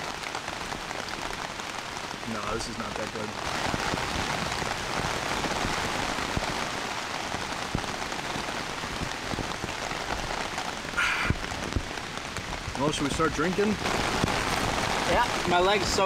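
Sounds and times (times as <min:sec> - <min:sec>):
heavy rain on a tent: 0:00.0 - 0:16.0.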